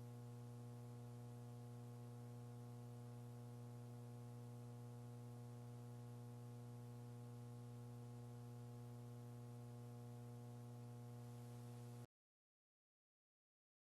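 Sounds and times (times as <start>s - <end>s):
faint electrical hum: 0.0s - 12.1s.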